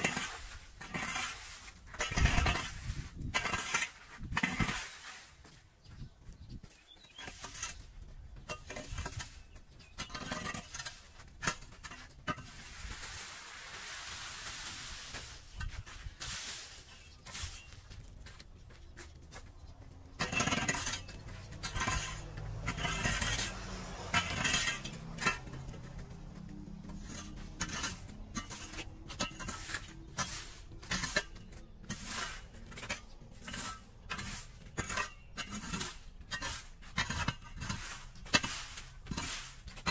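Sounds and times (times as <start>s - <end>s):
rake scraping leaves on concrete: 0.0s - 5.7s, 6.7s - 39.9s.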